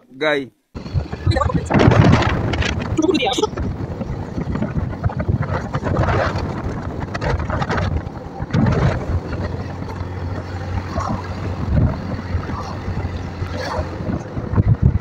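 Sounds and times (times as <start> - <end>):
road noise: 0.7 - 15.0
motorcycle engine droning: 0.8 - 15.0
wind buffeting microphone: 0.8 - 15.0.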